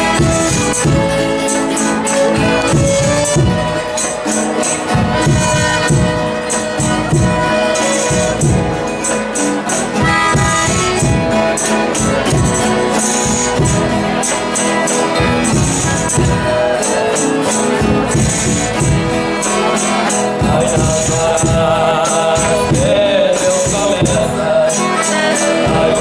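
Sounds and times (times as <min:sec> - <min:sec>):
drum beats: 0:00.0 - 0:26.0
held instrumental notes: 0:00.0 - 0:26.0.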